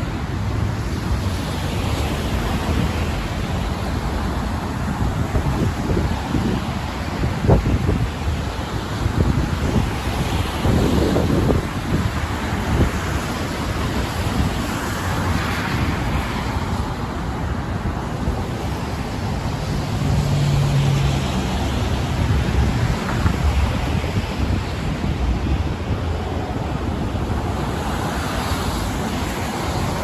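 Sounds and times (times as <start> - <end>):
traffic rushing: 0.0 - 30.0
wind buffeting microphone: 0.0 - 30.0.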